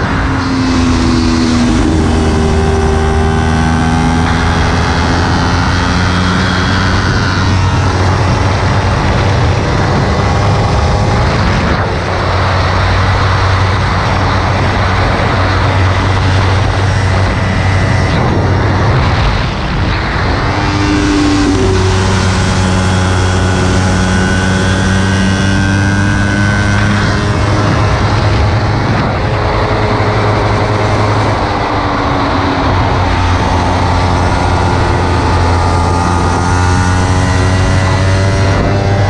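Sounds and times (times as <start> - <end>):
motorcycle engine at high revs: 0.0 - 39.0
wind rushing over camera: 0.0 - 39.0.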